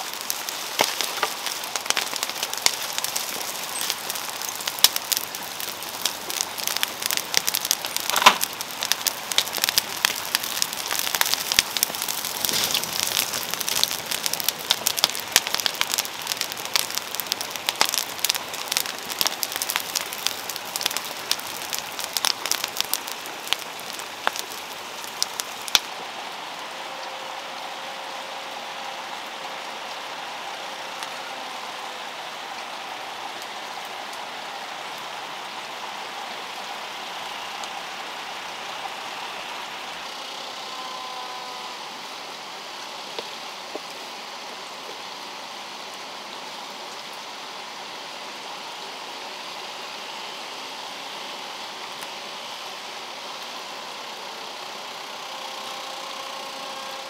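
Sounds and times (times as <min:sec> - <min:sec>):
brush fire crackling and popping: 0:00.0 - 0:57.0
fire hissing: 0:00.0 - 0:57.0.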